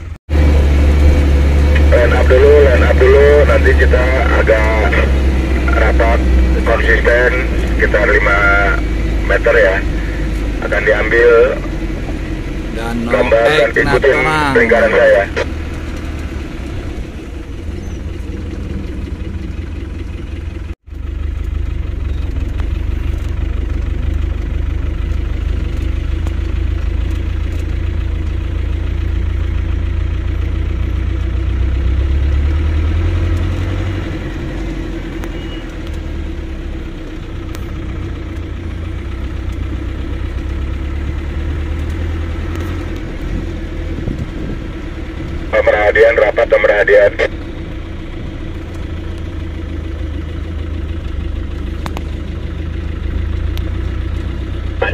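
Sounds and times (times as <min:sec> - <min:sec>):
off-road vehicle engine rumble: 0:00.0 - 0:54.9.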